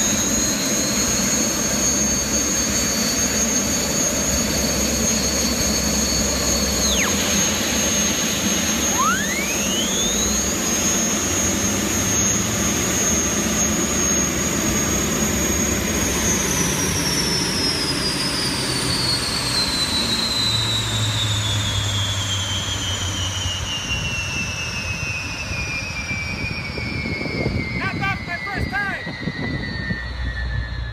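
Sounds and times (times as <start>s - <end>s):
gas turbines whining: 0.0s - 24.1s, 24.8s - 30.9s.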